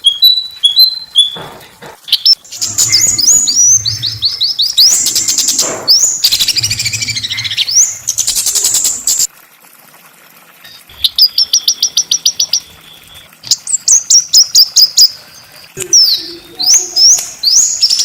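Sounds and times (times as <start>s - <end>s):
songbird chirps and trills: 0.0s - 9.3s, 10.7s - 18.0s.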